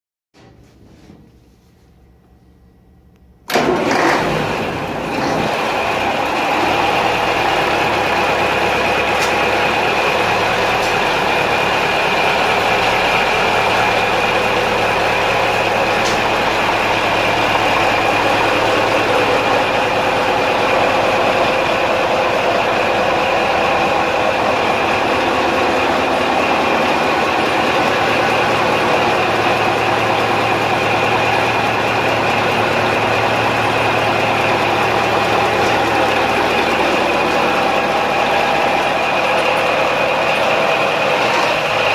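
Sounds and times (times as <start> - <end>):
diesel engine starting and running: 3.3 - 41.9.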